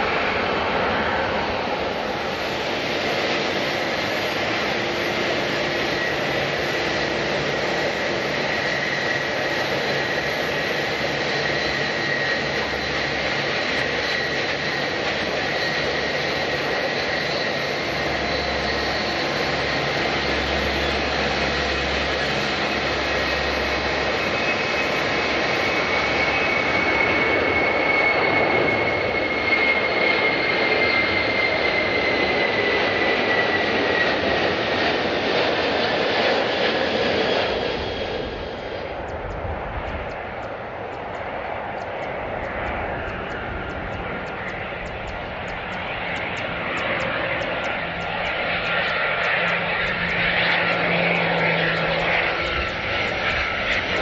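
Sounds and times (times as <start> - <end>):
jet airliner engines running: 0.0 - 54.0.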